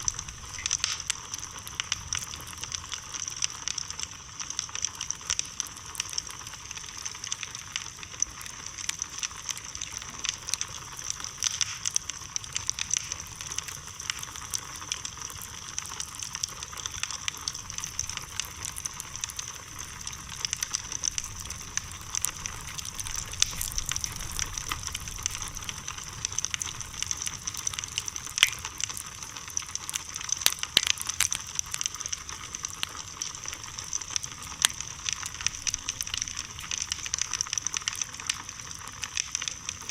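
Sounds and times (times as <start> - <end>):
bonfire crackling and popping: 0.0 - 39.9
fire hiss: 0.0 - 39.9.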